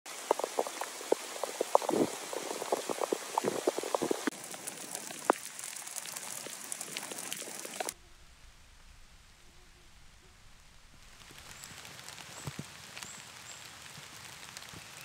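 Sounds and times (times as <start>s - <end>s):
raindrops hitting: 0.0s - 15.0s
hiss of rainfall: 0.1s - 15.0s.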